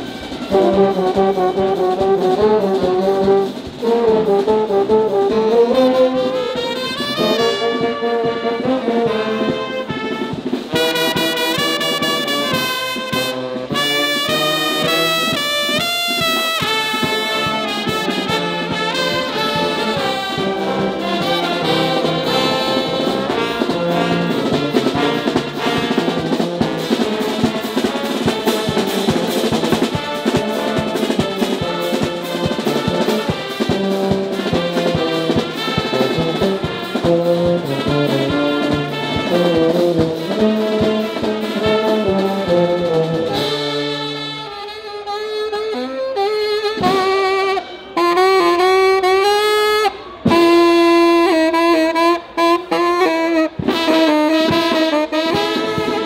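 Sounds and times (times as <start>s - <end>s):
brass band playing lively tune: 0.0s - 56.0s
saxophone melody: 0.0s - 56.0s.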